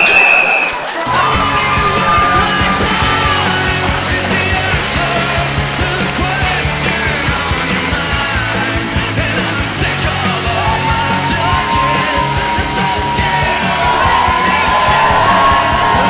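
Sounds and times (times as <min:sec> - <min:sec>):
voices yelling: 0:00.0 - 0:16.0
loud music with steady beat: 0:01.1 - 0:16.0.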